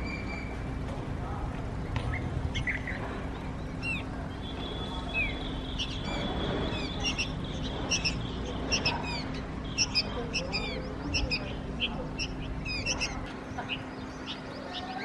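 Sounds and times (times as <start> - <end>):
nestlings chirping: 1.8 - 15.0.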